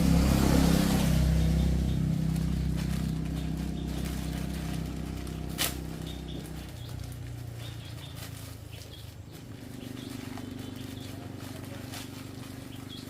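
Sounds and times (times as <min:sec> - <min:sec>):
birds chirping: 0:00.0 - 0:13.0
motorcycle engine running: 0:00.0 - 0:13.0.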